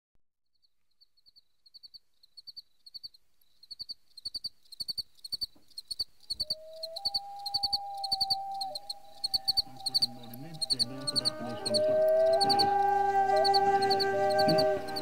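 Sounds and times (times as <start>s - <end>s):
cricket chirping: 0.6s - 15.0s.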